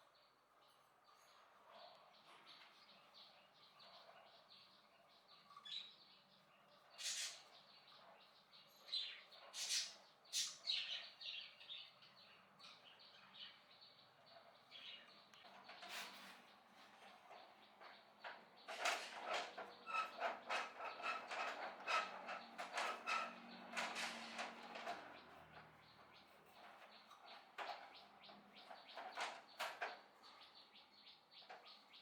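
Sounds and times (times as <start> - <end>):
birds chirping: 1.9 - 32.0.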